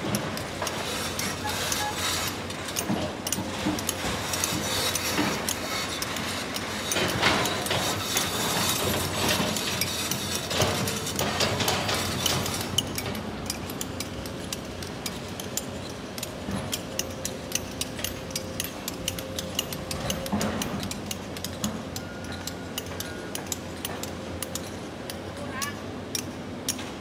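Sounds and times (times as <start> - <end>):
excavator engine: 0.0 - 25.4.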